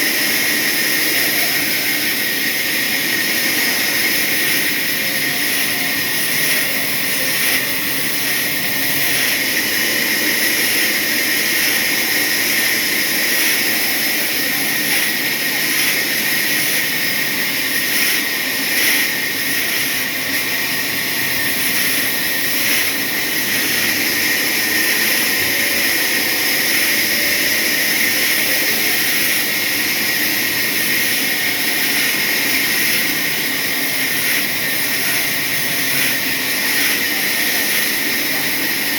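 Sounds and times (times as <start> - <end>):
saw blade cutting wood: 0.0 - 38.9.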